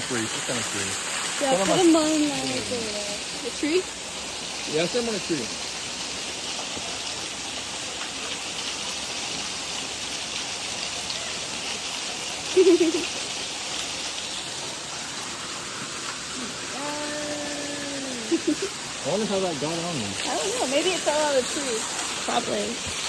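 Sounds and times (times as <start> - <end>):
running water hiss: 0.0 - 23.0.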